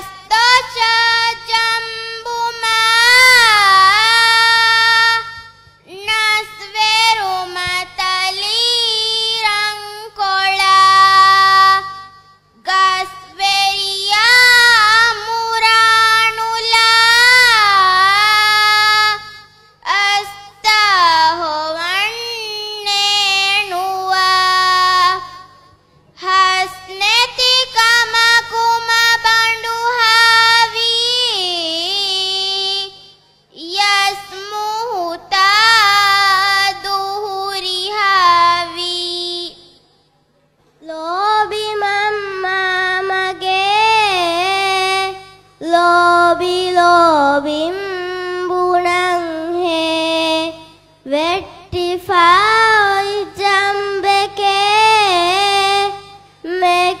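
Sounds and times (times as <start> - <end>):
girl chanting into a microphone: 0.0 - 39.8, 40.8 - 57.0.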